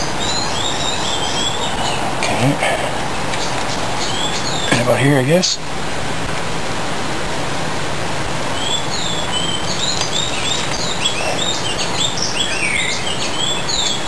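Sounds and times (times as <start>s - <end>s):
small birds chirping: 0.0s - 5.7s, 8.3s - 14.0s
steady background hiss: 0.0s - 14.0s.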